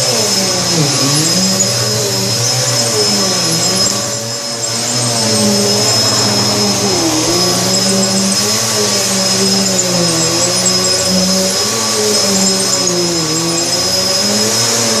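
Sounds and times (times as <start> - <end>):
vacuum cleaner on carpet: 0.0 - 15.0.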